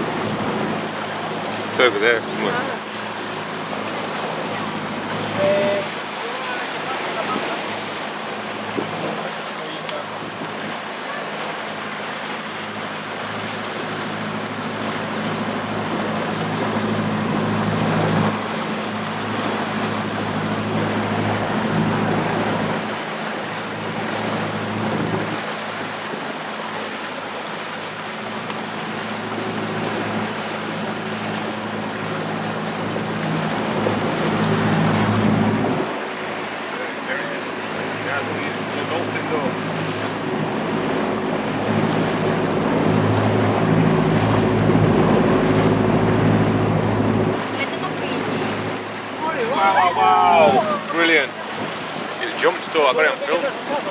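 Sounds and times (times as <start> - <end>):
boat engine running: 0.0 - 53.9
water rushing: 0.0 - 53.9
wind: 0.0 - 53.9.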